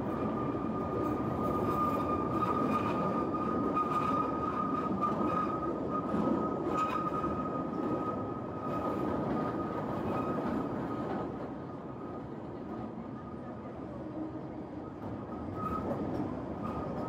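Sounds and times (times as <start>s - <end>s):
train rolling along track: 0.0s - 17.0s.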